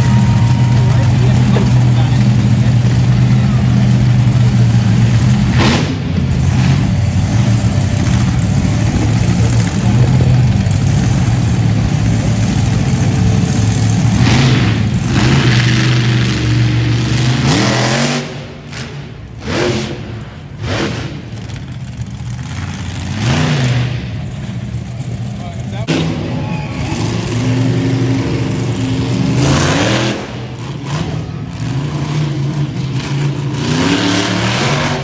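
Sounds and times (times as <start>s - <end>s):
truck engine idling and revving: 0.0s - 35.0s.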